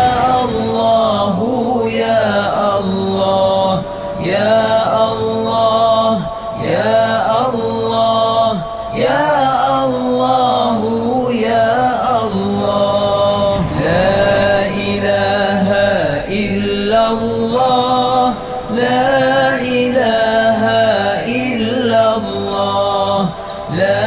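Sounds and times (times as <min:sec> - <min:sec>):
person chanting melodically: 0:00.0 - 0:24.0.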